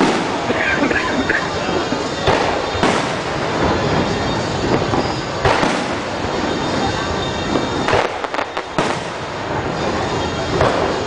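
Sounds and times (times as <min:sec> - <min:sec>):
fireworks bangs: 0:00.0 - 0:11.0
rumble of explosions: 0:00.0 - 0:11.0.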